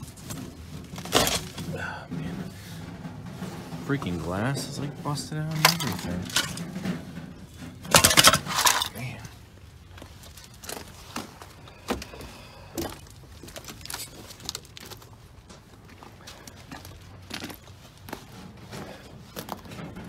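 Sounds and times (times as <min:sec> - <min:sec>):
footsteps on gravel: 0:00.0 - 0:20.0.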